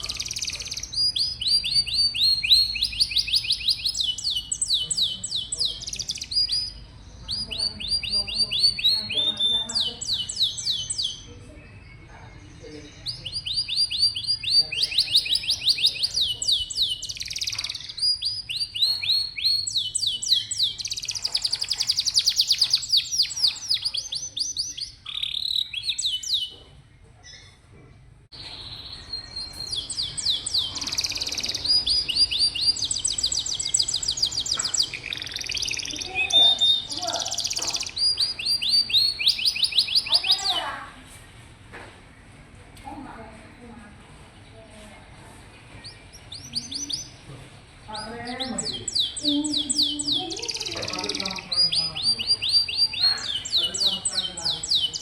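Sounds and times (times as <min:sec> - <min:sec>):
canary singing trills: 0:00.0 - 0:41.4, 0:45.4 - 0:55.0.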